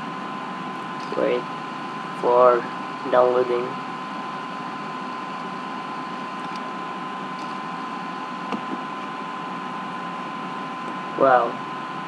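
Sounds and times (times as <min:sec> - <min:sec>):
thin steady whine: 0:00.0 - 0:12.0.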